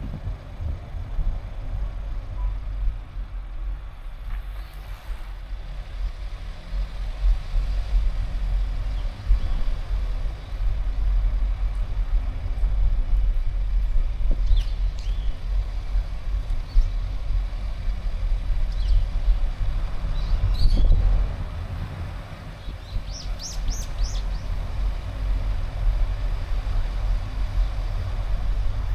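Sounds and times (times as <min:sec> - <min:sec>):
car road and engine rumble: 0:00.0 - 0:28.9.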